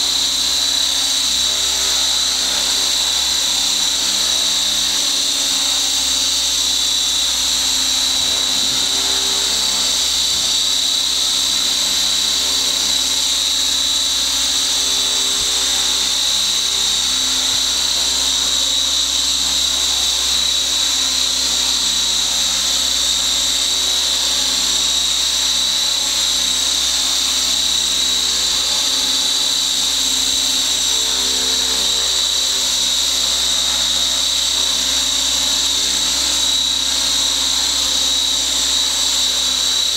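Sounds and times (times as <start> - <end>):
rc helicopter whine: 0.0 - 39.9.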